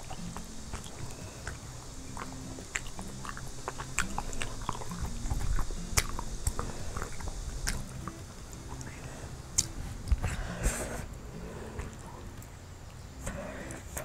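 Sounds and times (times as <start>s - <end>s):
close chewing: 0.0s - 14.0s.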